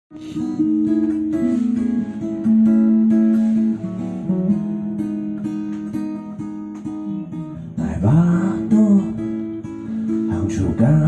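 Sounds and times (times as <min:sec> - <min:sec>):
strummed acoustic guitar: 0:00.1 - 0:11.0.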